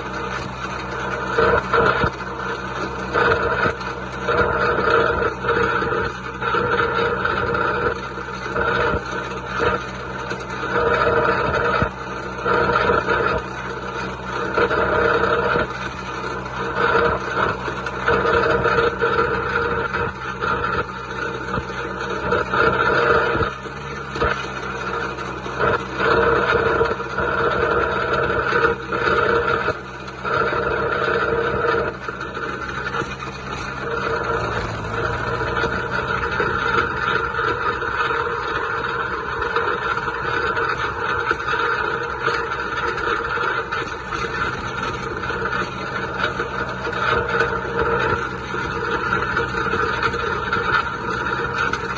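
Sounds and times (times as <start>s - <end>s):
higher pulsing whine: 0.0s - 51.9s
tractor diesel engine running: 0.0s - 51.9s.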